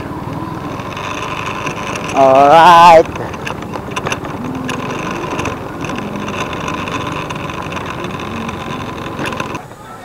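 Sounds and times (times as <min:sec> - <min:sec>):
vehicle engine running: 0:00.0 - 0:09.8
constant rushing noise: 0:00.0 - 0:10.0.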